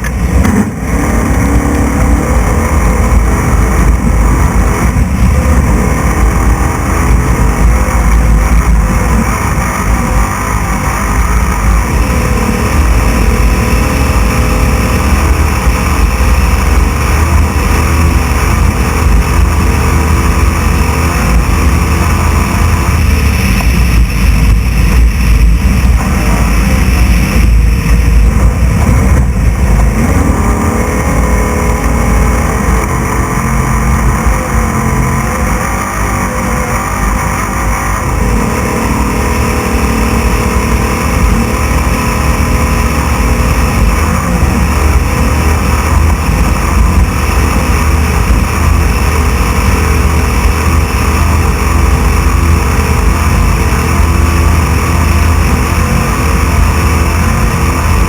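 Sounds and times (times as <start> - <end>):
rumble and rattle from rough ground: 0.0 - 58.0
truck engine running hard: 0.0 - 58.0.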